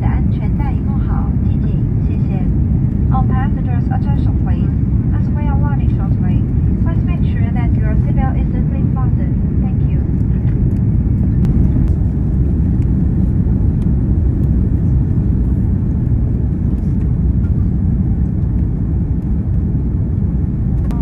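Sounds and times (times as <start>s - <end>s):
aircraft engines rumbling: 0.0s - 21.0s.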